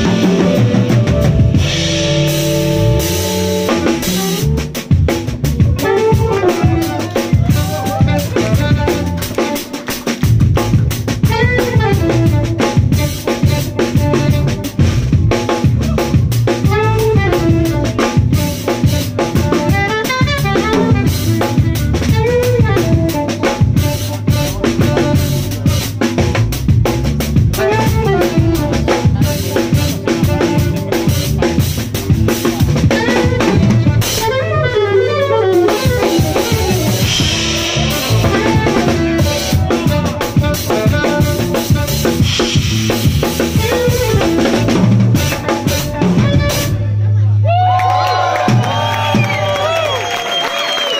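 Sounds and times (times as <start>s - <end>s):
saxophone playing melody: 0.0s - 47.2s
electric bass guitar: 0.0s - 50.0s
drum kit: 0.0s - 50.9s.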